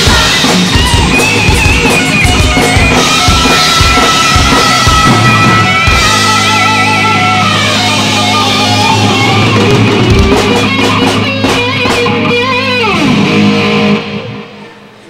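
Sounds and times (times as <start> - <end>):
rock music with electric guitar: 0.0 - 14.9.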